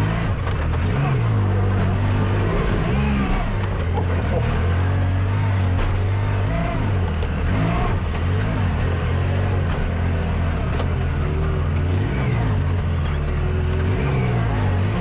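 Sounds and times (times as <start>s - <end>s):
utility vehicle engine at low revs: 0.0s - 15.0s.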